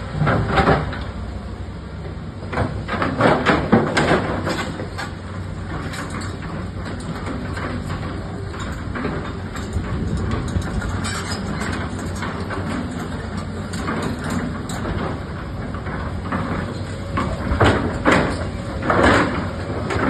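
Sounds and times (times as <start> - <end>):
digger engine running: 0.0 - 20.0
metal clanks and knocks: 2.5 - 20.0.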